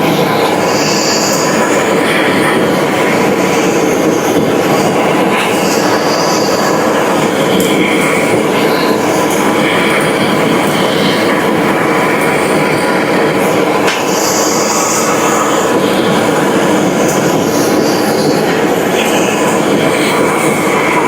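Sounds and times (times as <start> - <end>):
high squeal: 0.0 - 7.2, 10.7 - 21.0
loud machinery noise: 0.0 - 21.0.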